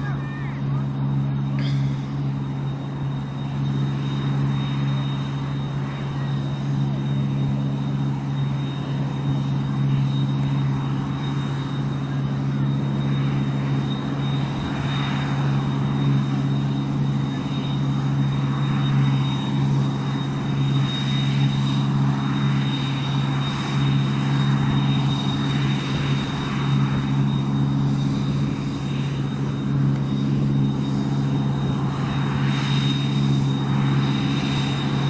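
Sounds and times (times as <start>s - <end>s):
combine harvester engine drone: 0.0s - 35.0s
high whine: 0.0s - 35.0s.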